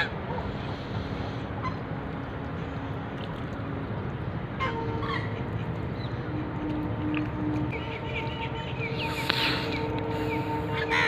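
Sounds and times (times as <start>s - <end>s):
ducks and geese calling: 0.0s - 2.7s, 4.5s - 11.0s.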